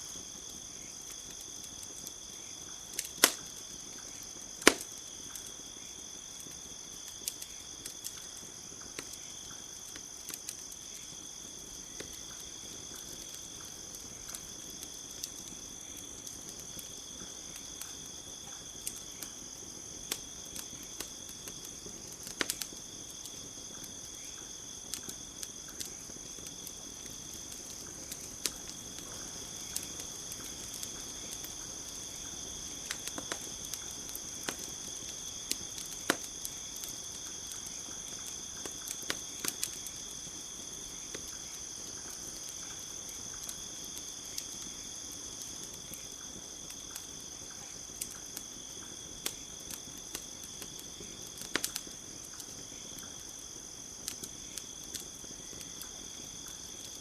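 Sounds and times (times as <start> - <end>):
campfire crackling and popping: 0.0 - 57.0
crickets chirping: 0.0 - 57.0.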